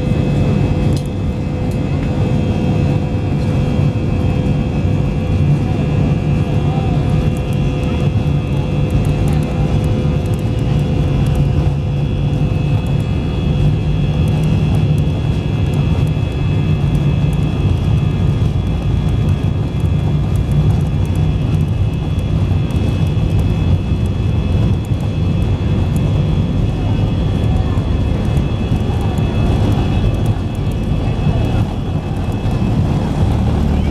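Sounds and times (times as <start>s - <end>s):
jet engine hum in cabin: 0.0s - 33.9s.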